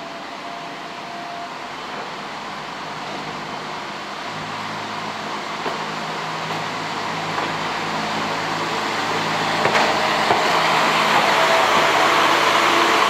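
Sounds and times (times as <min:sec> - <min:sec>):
rail car rumbling along track: 0:00.0 - 0:13.0.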